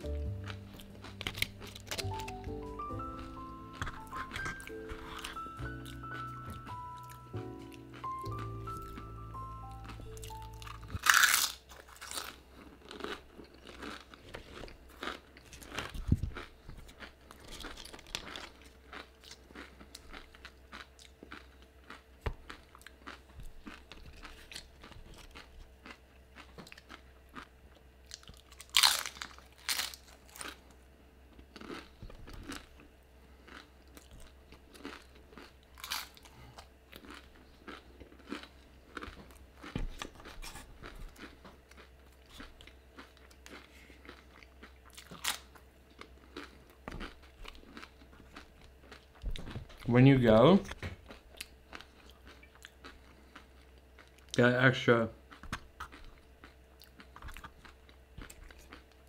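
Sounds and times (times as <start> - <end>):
chewing: 0.0 - 9.1, 9.7 - 49.9, 50.6 - 54.4, 55.3 - 59.0
chips crunching: 0.0 - 30.8, 31.4 - 49.1, 55.3 - 59.0.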